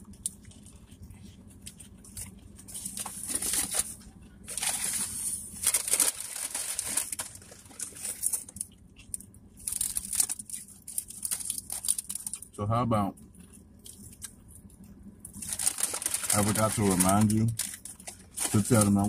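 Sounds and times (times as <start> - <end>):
chewing crispy food: 0.0 - 19.0.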